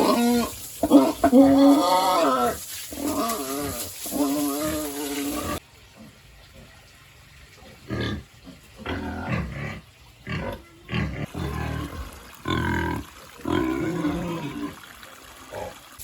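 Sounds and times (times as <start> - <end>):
pigs grunting and squealing: 0.0 - 6.8, 7.6 - 14.9.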